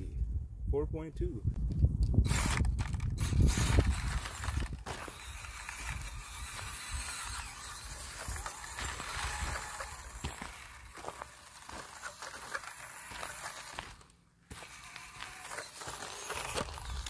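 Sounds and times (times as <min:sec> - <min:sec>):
toy car gears whirring: 0:02.2 - 0:17.0.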